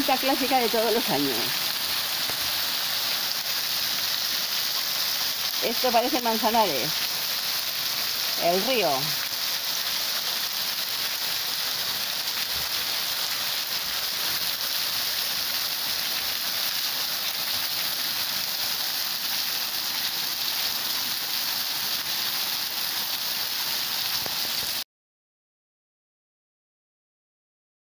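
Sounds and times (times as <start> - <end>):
heavy rain on roofs and street: 0.0 - 24.8.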